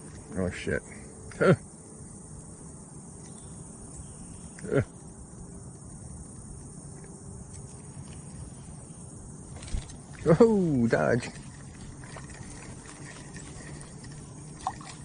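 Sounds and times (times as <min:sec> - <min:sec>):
faint insect drone: 0:00.0 - 0:15.0.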